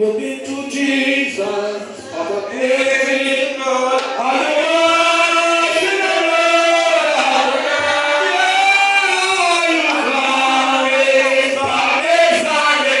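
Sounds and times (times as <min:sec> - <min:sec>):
man singing through microphone: 0:00.0 - 0:13.0
other voices singing: 0:00.0 - 0:13.0.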